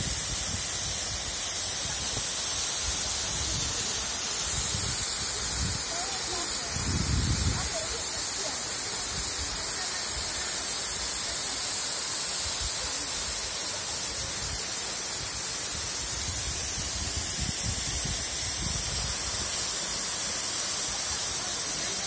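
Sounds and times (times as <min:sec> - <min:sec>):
waterfall splashing onto rocks: 0:00.0 - 0:22.0.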